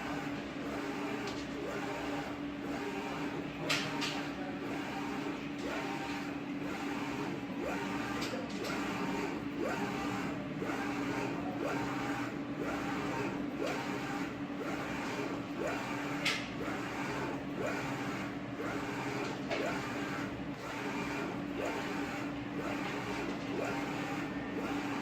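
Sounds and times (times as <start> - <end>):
print head whirring: 0.0 - 25.0
printer humming: 0.0 - 25.0.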